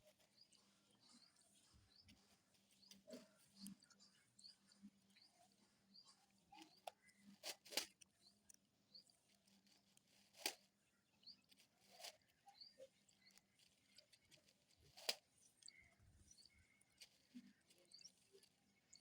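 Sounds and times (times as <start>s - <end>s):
faint high bird chirps: 0.0s - 19.0s
beaks pecking on hard surface: 0.1s - 19.0s.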